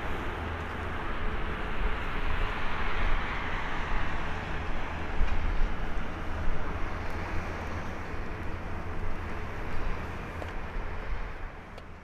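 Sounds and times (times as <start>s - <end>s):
jet engine rumble: 0.0s - 12.0s.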